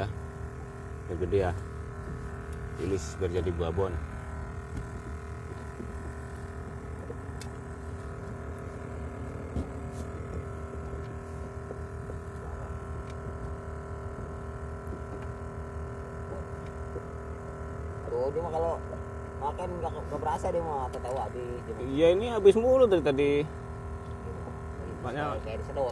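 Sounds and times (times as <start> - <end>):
engine-like hum: 0.0 - 25.9.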